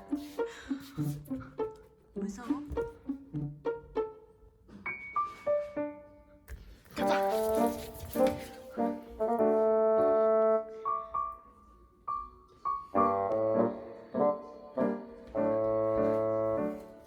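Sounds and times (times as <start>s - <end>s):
piano chords and notes: 2.8s - 17.0s.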